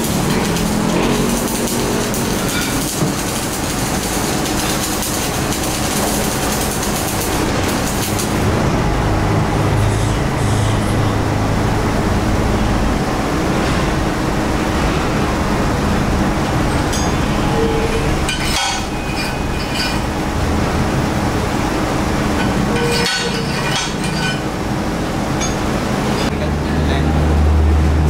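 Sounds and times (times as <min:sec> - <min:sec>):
welding arc crackling: 0:00.0 - 0:09.8, 0:12.2 - 0:26.3
mechanical drone: 0:00.0 - 0:28.0.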